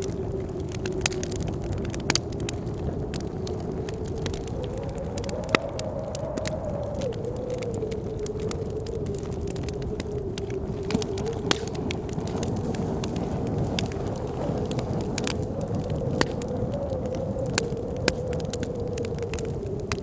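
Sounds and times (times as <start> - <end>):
blizzard wind whistling: 0.0 - 20.0
wood fire crackling and popping: 0.0 - 20.0.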